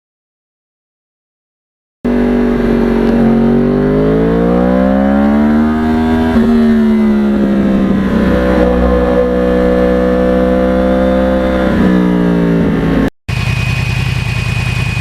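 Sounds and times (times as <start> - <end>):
motorcycle engine running: 2.1 - 15.0.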